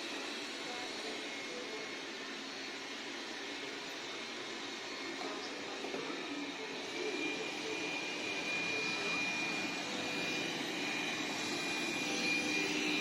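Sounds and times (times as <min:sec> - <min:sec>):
robot vacuum running on carpet: 0:00.0 - 0:13.0.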